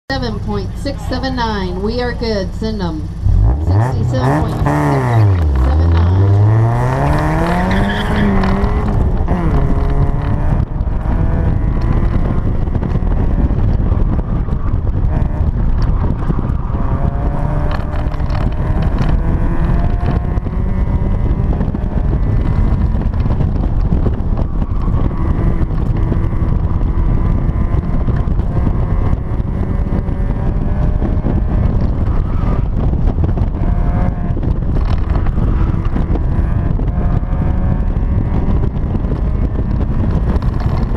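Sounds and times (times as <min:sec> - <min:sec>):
car engine revving: 0:00.1 - 0:40.9
wind rushing: 0:03.2 - 0:40.9.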